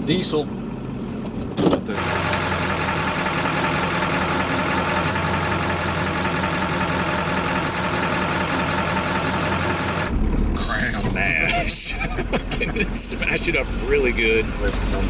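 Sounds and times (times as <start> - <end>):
diesel truck engine idling: 2.0 - 15.0.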